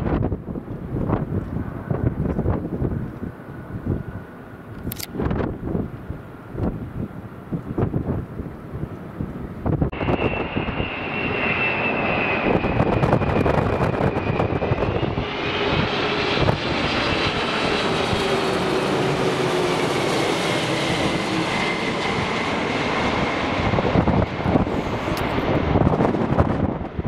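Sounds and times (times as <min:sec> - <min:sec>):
jet engines passing overhead: 0:00.0 - 0:27.0.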